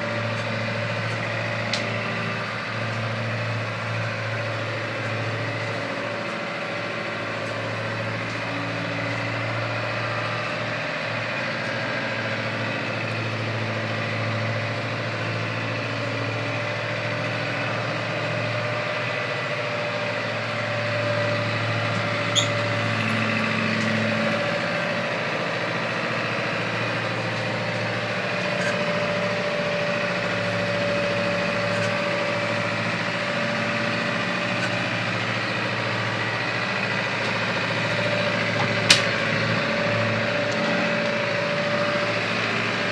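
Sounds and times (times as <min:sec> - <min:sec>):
low engine-like hum: 0:00.0 - 0:42.9.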